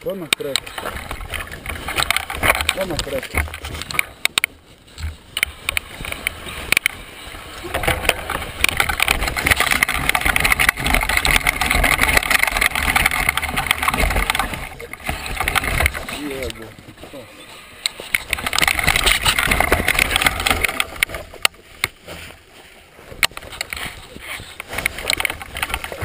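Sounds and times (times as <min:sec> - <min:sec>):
bike tyres rolling over stones: 0:00.0 - 0:17.2, 0:17.9 - 0:26.0
bike knocks and rattles: 0:00.7 - 0:06.9, 0:07.6 - 0:16.5, 0:18.0 - 0:22.2, 0:23.1 - 0:26.0.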